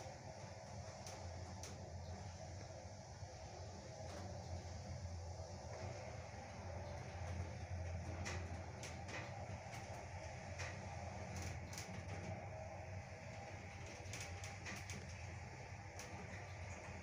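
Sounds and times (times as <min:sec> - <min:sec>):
elevator low hum: 0:00.0 - 0:17.0.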